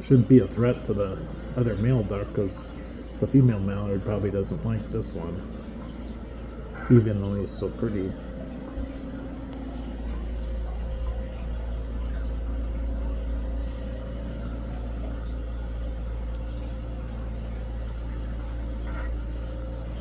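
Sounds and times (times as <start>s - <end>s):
motor running: 0.0s - 20.0s.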